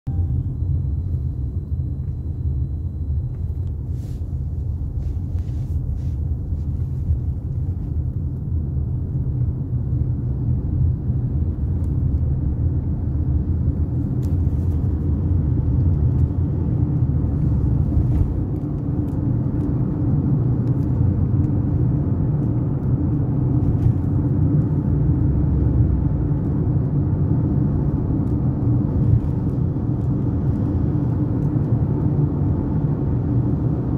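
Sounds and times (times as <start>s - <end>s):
car road rumble: 0.0s - 33.9s.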